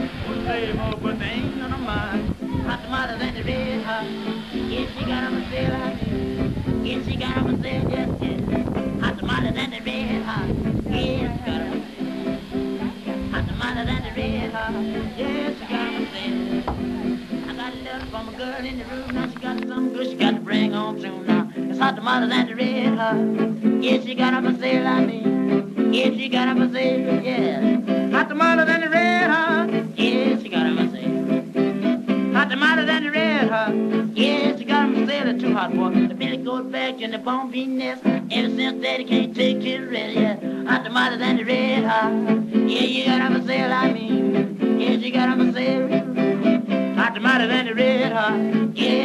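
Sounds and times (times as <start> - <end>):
acoustic guitar tune: 0.0 - 49.0.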